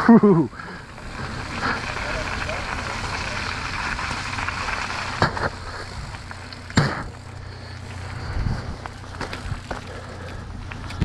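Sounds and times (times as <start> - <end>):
bike rattling: 0.0 - 11.0
bike tyres rolling on gravel: 0.0 - 11.0.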